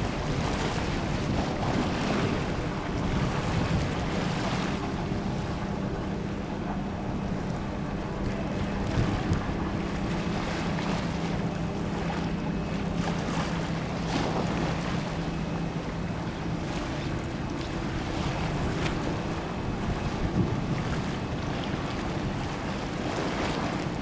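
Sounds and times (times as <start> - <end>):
steady low hum: 0.0 - 24.0
water lapping: 0.0 - 24.0
wind buffeting microphone: 0.0 - 24.0.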